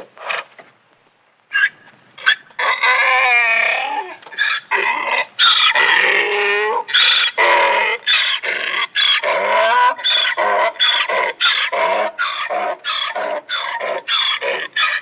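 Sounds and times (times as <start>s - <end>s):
donkey braying: 1.5s - 15.0s.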